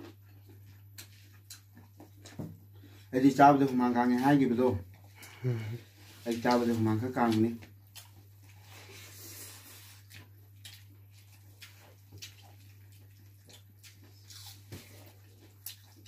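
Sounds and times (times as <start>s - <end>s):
wet chewing and lip-smacking: 0.0s - 3.0s, 4.8s - 16.0s
steady low hum: 0.0s - 16.0s.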